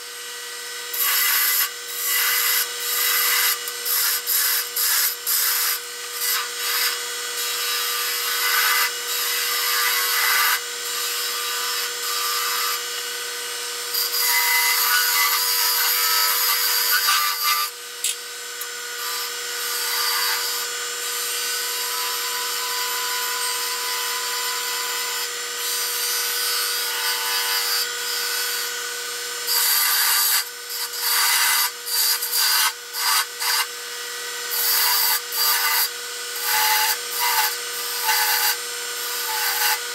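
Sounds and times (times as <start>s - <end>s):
chisel cutting wood on lathe: 0.5s - 39.9s.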